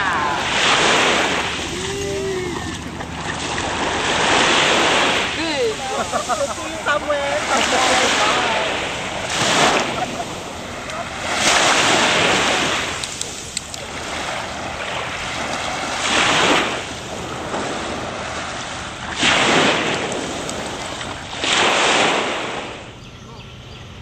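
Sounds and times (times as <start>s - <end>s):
waves washing onto a beach: 0.0s - 22.9s.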